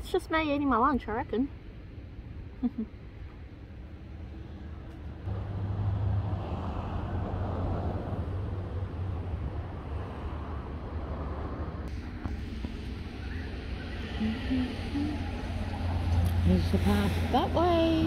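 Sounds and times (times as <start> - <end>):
passing motor vehicle rumble: 1.1 - 18.0.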